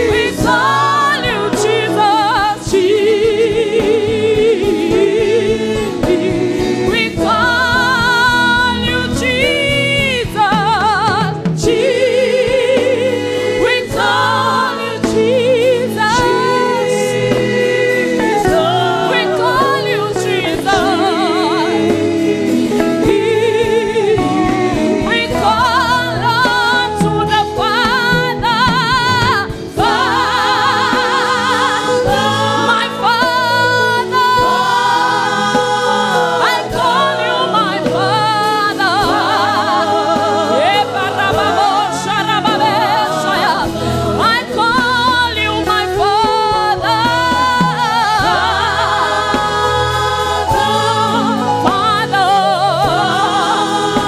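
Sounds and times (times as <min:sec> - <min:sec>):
band accompaniment: 0:00.0 - 0:54.0
voices singing: 0:00.0 - 0:54.0.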